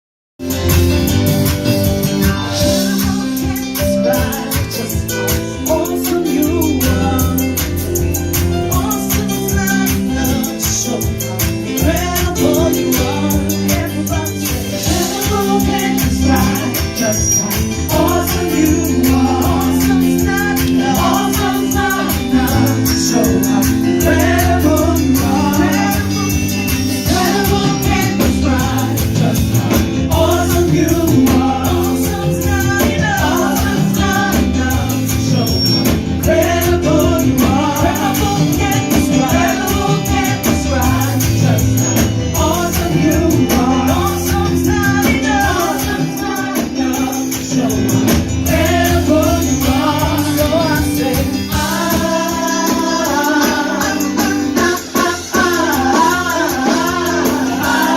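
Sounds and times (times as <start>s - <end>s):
band playing chords and beat: 0.4s - 57.9s
voices singing gospel song: 0.4s - 57.9s.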